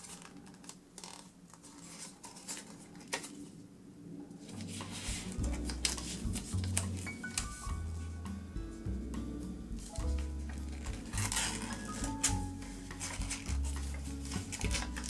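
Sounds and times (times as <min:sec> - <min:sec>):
paper rustling and crackling: 0:00.0 - 0:03.6, 0:04.4 - 0:08.1, 0:09.8 - 0:15.0.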